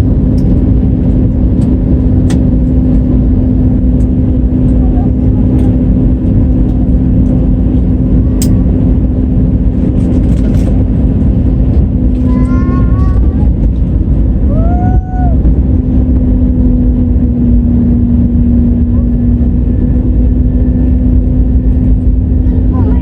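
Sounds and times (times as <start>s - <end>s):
airliner engines rumbling: 0.0s - 23.0s
constant low hum: 0.0s - 23.0s.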